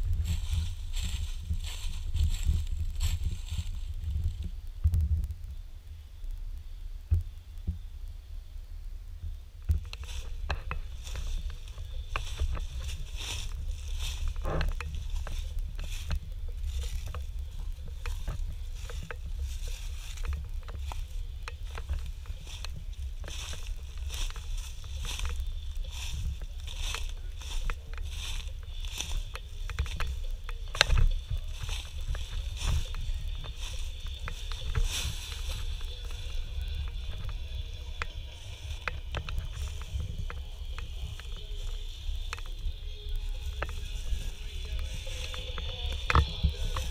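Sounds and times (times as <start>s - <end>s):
footsteps crunching dry leaves: 0.0s - 4.6s, 9.7s - 46.9s
faint hiss: 0.0s - 46.9s
small sharp ticks and crackles: 0.0s - 46.9s
wind rumble on microphone: 0.0s - 46.9s.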